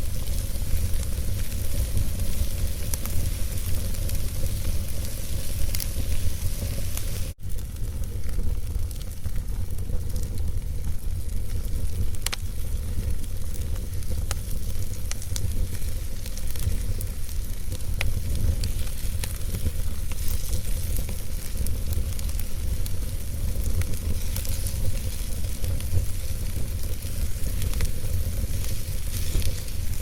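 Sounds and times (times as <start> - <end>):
fire crackling and hissing: 0.0 - 30.0
low fire rumble: 0.0 - 30.0
sharp pops of burning logs: 0.0 - 30.0.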